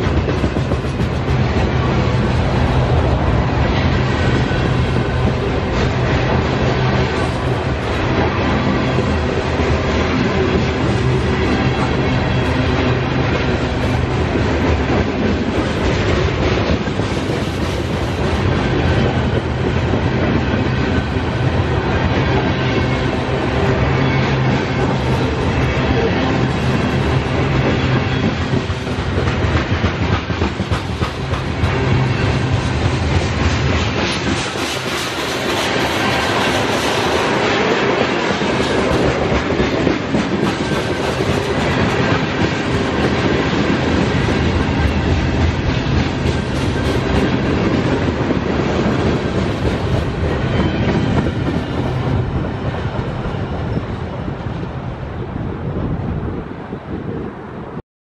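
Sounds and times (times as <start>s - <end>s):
freight train wheels rumbling: 0.0s - 57.8s.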